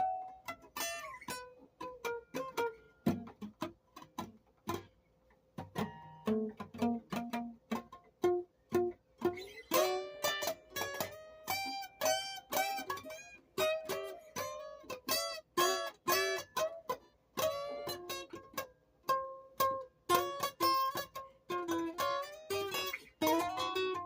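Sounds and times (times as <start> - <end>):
plucked string instrument tune: 0.0 - 24.0.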